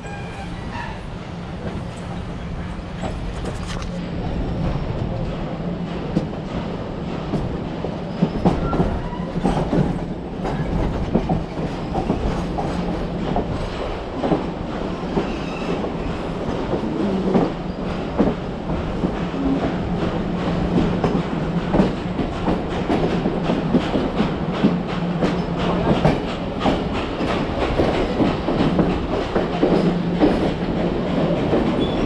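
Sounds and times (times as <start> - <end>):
train coach rumbling on track: 0.0 - 32.0.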